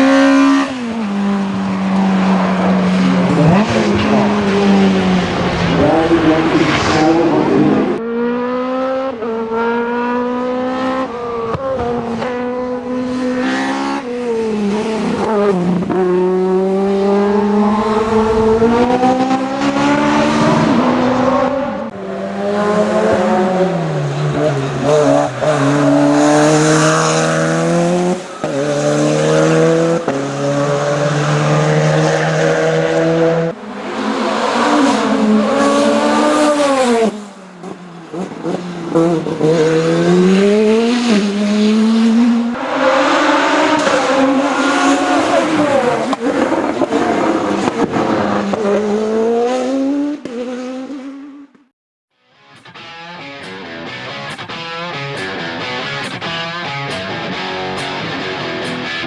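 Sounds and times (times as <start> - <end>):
racing car engines revving: 0.0 - 51.7.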